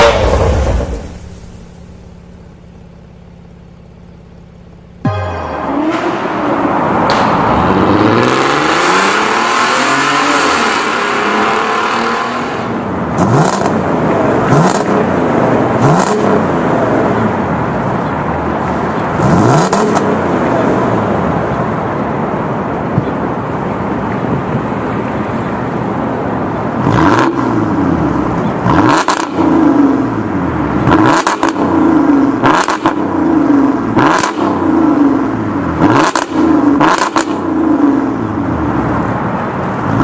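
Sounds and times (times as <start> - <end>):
car engine revving and idling: 0.0 - 40.0.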